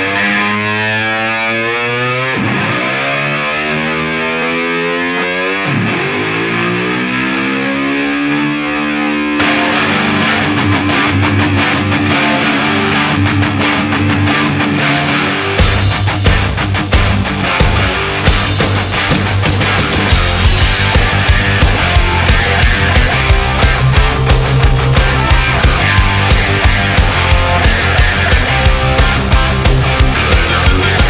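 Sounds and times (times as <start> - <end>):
rock music with distorted guitar: 0.0 - 31.0.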